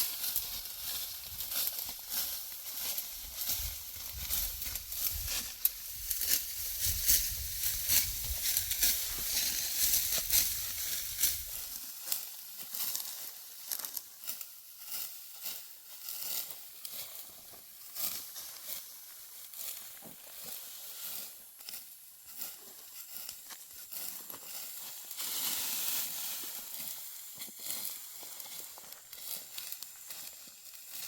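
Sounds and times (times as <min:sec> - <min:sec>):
dry wheat stalks rustling: 0:00.0 - 0:31.0.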